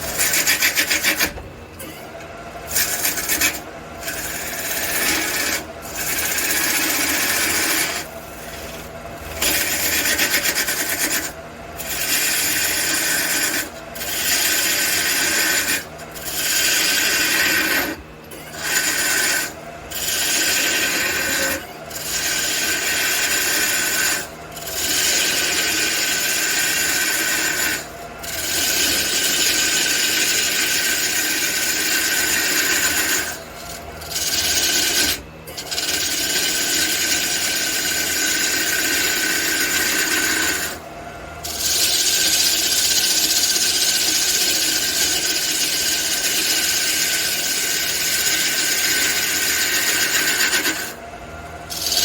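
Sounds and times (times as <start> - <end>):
turning tool scraping wood: 0.0 - 51.1, 51.7 - 52.0
wood lathe hum: 0.0 - 52.0.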